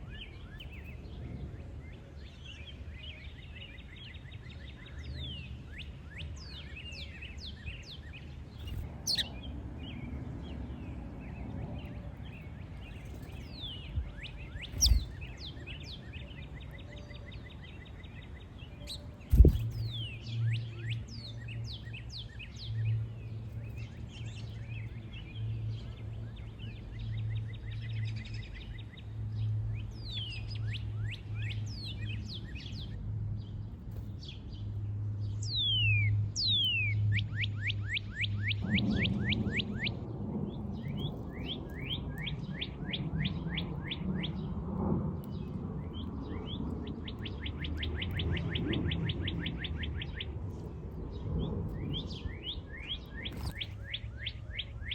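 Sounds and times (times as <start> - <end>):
songbirds chirping and singing: 0.0 - 54.9.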